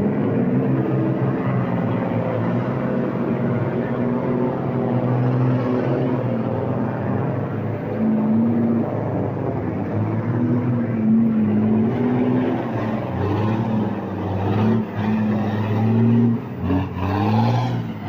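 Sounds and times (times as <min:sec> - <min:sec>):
truck diesel engine labouring: 0:00.0 - 0:18.0.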